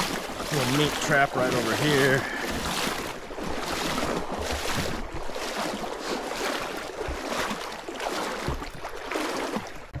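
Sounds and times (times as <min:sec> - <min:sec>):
wading through water splashing: 0:00.0 - 0:10.0.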